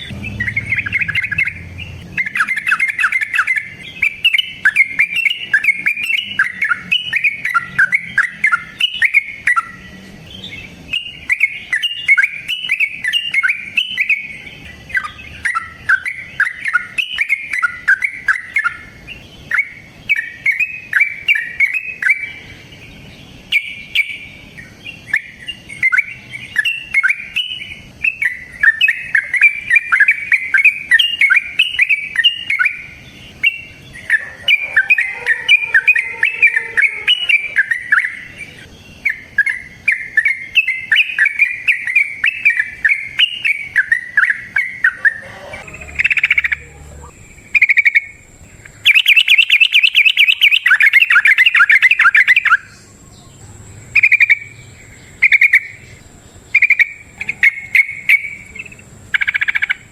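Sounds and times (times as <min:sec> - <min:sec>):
bulbul singing chattering notes: 0:00.0 - 0:53.0, 0:53.8 - 0:59.9.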